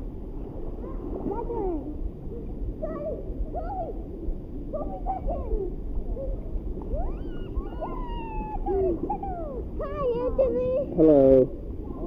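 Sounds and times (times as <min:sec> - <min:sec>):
low rumble of water and wind: 0:00.0 - 0:12.0
muffled voices in swimming pool: 0:00.0 - 0:12.0.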